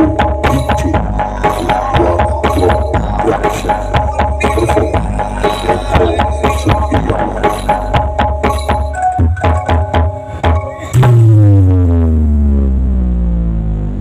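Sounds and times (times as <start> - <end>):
music with heavy bass: 0.0 - 14.0.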